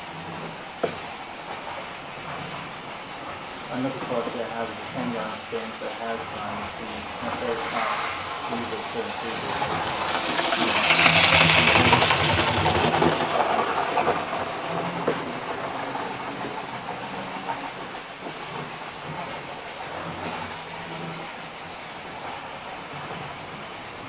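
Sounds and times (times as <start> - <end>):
model train motor hum: 3.8 - 24.0.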